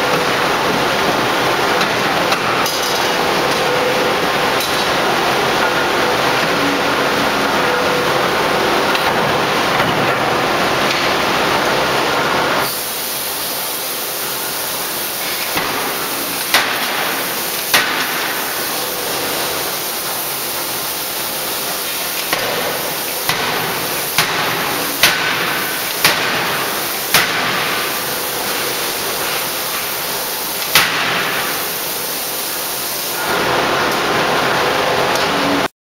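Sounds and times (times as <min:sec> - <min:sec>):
shop machinery noise: 0:00.0 - 0:35.7.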